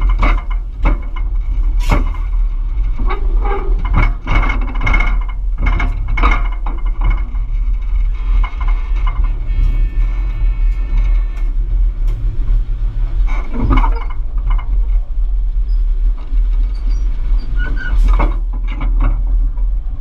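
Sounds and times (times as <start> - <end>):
locomotive engine rumbling: 0.0 - 20.0.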